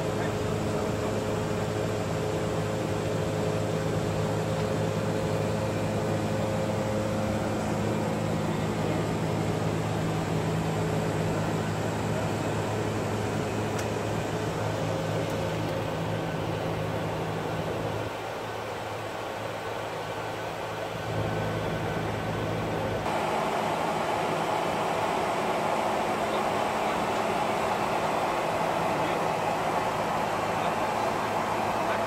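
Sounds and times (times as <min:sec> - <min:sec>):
airflow and air conditioning rush: 0:00.0 - 0:32.0
faint constant tones: 0:00.0 - 0:32.0.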